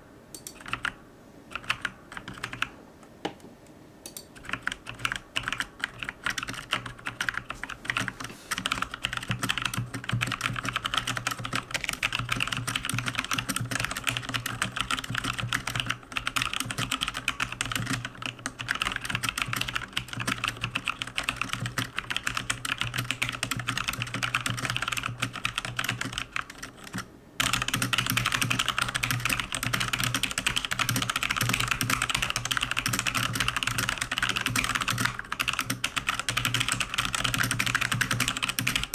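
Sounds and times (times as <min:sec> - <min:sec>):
mechanical keyboard typing: 0:00.4 - 0:02.7, 0:04.1 - 0:38.9.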